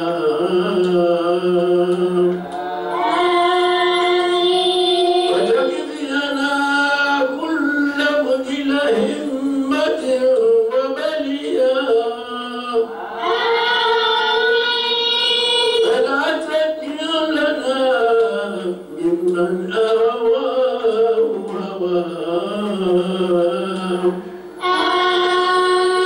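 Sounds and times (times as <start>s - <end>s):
man chanting into microphone: 0.0s - 2.4s, 4.9s - 13.0s, 15.4s - 26.0s.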